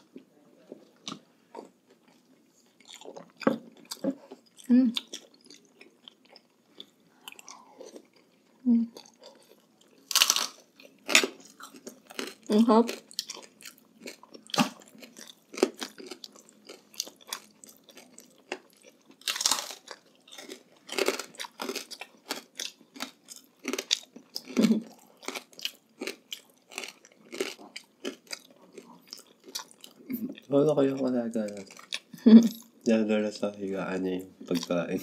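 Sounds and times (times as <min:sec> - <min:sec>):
crunching and chewing fried pork: 0:00.1 - 0:33.0, 0:34.4 - 0:35.0.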